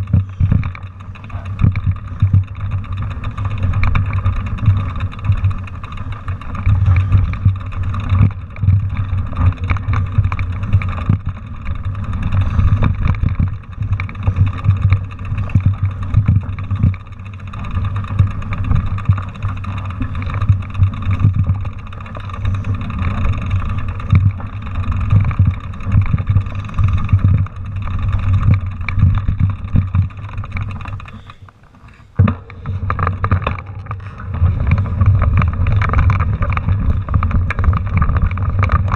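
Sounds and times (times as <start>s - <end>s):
bike rattling and knocking: 0.0s - 38.9s
wind rumbling on microphone: 0.0s - 38.9s.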